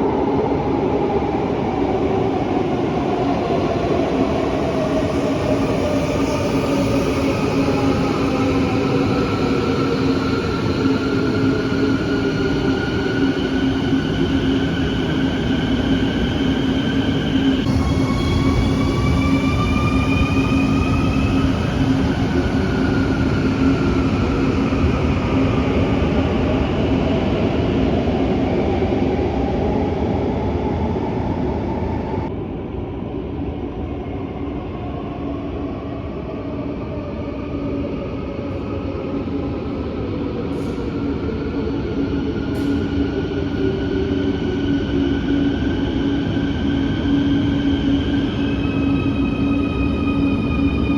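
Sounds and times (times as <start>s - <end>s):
train rumble and hum: 0.0s - 50.9s.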